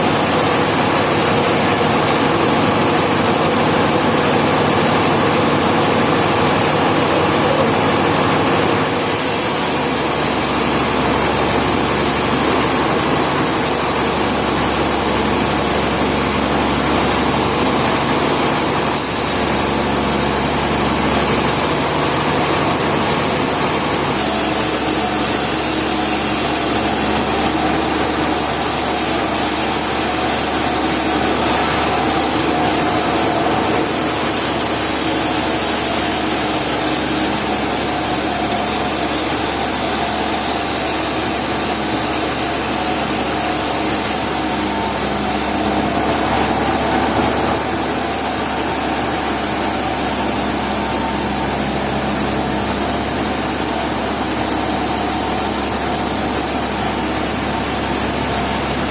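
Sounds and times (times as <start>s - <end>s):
sawmill engine running: 0.0s - 58.9s
saw cutting wood: 7.4s - 58.9s.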